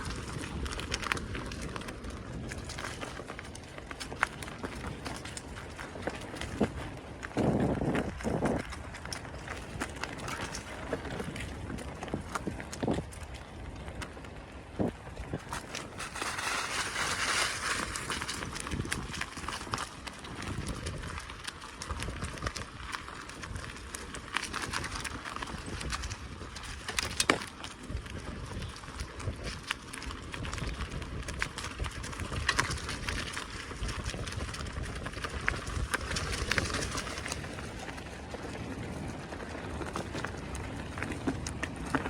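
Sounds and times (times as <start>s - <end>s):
bicycle tyres on dirt path: 0.0s - 42.0s.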